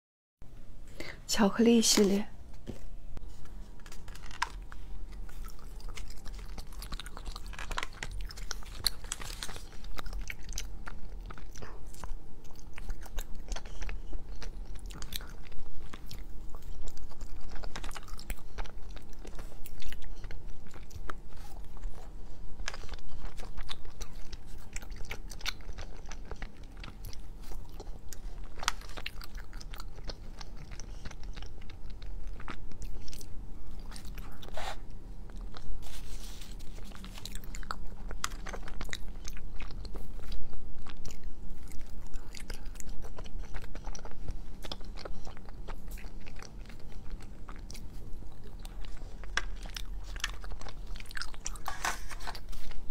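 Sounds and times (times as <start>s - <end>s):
faint low hum: 0.4s - 52.9s
chewing chocolate: 3.8s - 52.9s.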